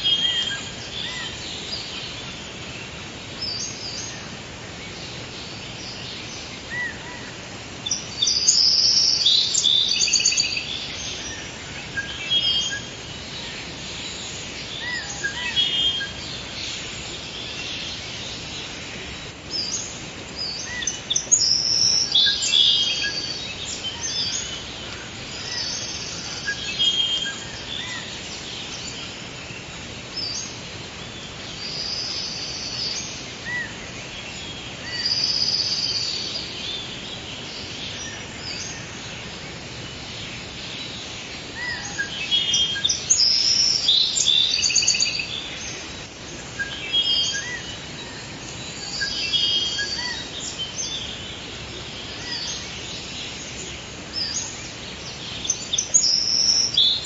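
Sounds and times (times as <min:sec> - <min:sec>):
birds singing and chirping: 0:00.0 - 0:57.0
steady background hiss: 0:00.0 - 0:57.0.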